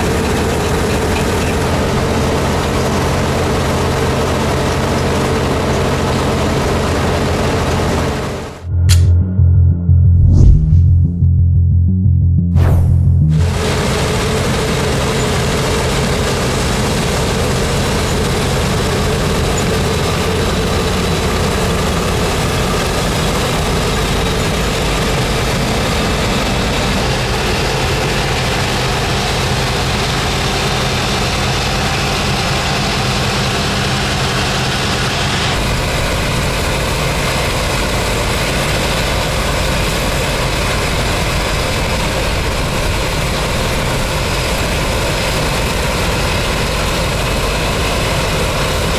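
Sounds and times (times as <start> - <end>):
combine harvester running: 0.0 - 9.2, 12.7 - 48.9.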